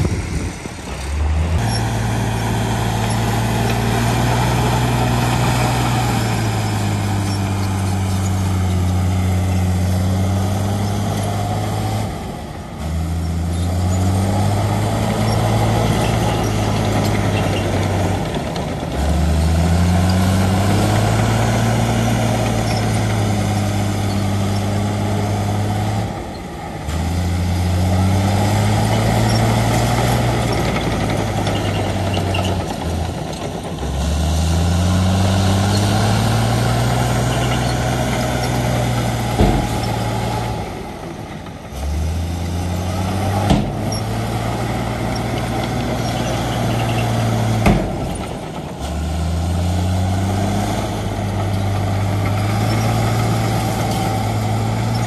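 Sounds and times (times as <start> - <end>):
heavy diesel engine under load: 0.0 - 55.0.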